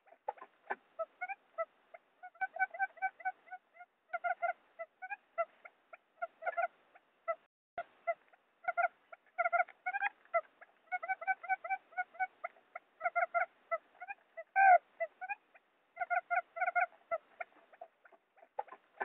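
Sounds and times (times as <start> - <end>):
quail call notes: 0.0 - 19.0.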